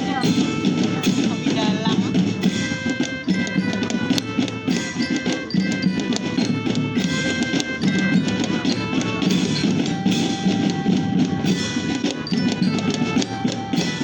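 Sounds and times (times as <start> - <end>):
drums: 0.0 - 14.0
held musical tones: 0.0 - 14.0.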